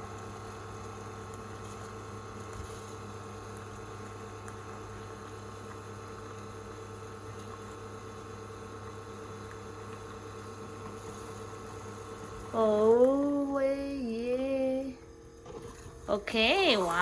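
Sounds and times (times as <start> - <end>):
coffee maker pump hum: 0.0 - 17.0.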